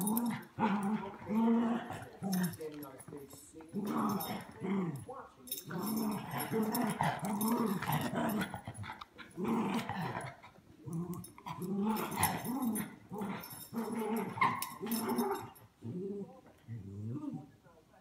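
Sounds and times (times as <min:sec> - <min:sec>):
small dogs growling in play: 0:00.0 - 0:02.6, 0:03.7 - 0:17.5.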